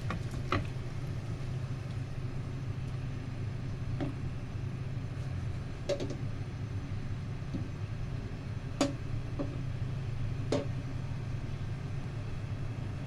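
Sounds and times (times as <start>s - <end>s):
low hum of boiling water: 0.0s - 13.0s.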